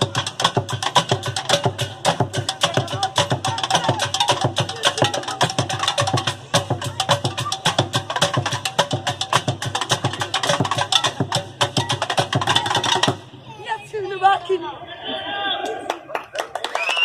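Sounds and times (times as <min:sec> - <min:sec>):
percussion group playing: 0:00.0 - 0:14.7.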